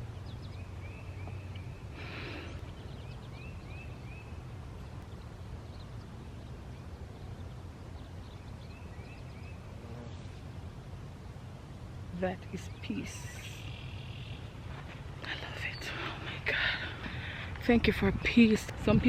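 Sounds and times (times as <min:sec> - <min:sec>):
bird chirping song: 0:00.0 - 0:10.6, 0:12.2 - 0:19.0
distant background hum: 0:00.0 - 0:19.0.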